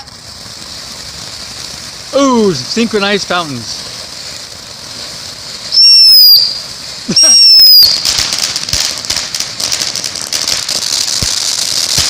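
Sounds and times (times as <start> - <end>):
shrill firework whistles: 0.0 - 2.6, 3.8 - 12.0
firework fountains crackling: 0.0 - 12.0.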